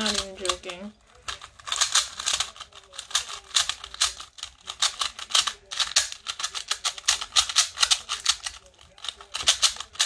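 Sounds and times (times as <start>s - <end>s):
puzzle cube plastic clicking: 0.0s - 10.0s.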